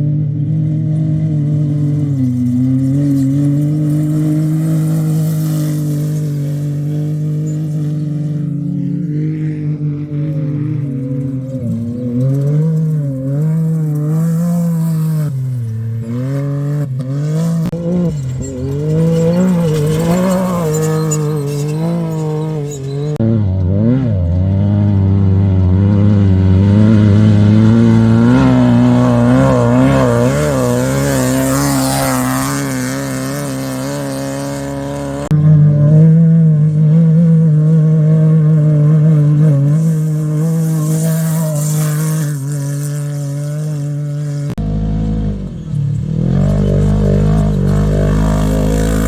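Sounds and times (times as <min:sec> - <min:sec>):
race vehicle engines revving: 0:00.0 - 0:49.0.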